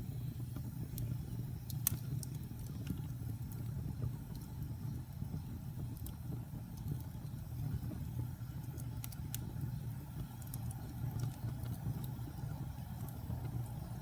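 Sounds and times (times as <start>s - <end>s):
fire crackles and pops: 0.0s - 14.0s
fire flames rumbling: 0.0s - 14.0s.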